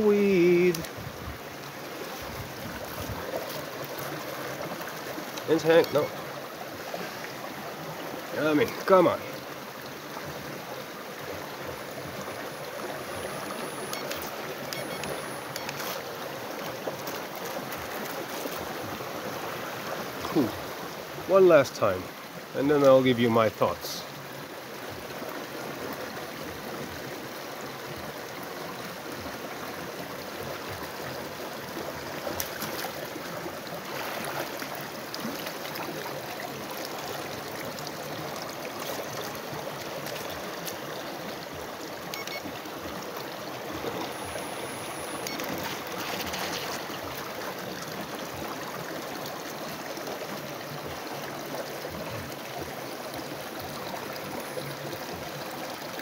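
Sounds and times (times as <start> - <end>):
stream water rushing and trickling: 0.0 - 56.0.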